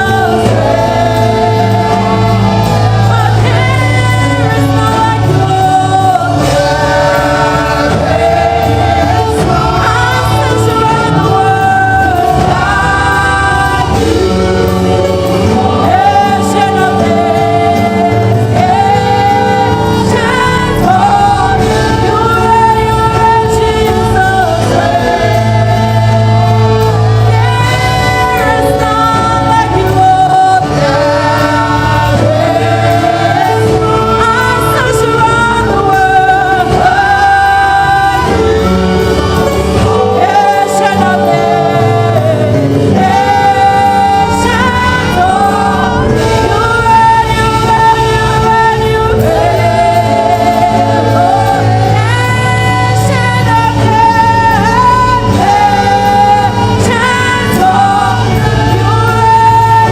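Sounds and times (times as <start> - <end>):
bass line: 0.0 - 59.9
choir singing gospel: 0.0 - 59.9.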